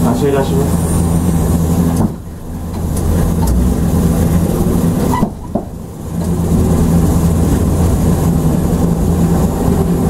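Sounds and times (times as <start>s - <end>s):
low traction motor hum: 0.0s - 10.0s.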